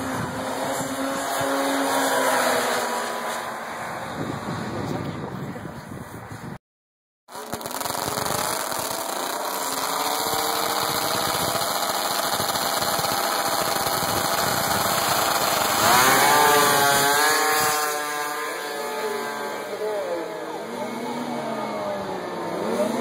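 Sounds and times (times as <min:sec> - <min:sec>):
snowmobile engines revving: 0:00.0 - 0:06.0, 0:07.3 - 0:23.0.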